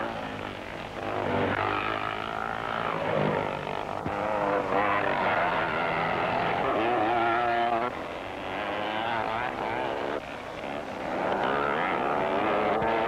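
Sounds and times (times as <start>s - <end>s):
motorcycle engines running hard: 0.0s - 13.0s.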